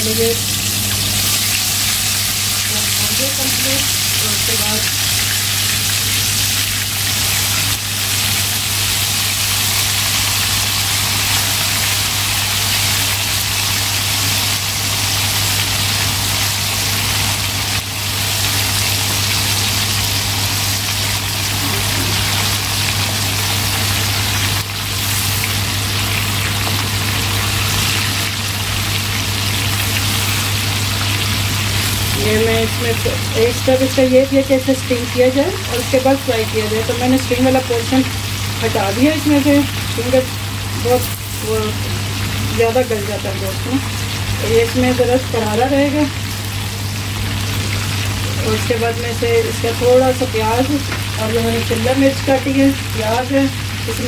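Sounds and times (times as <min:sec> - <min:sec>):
food sizzling in hot oil: 0:00.0 - 0:54.0
low steady hum: 0:00.0 - 0:54.0.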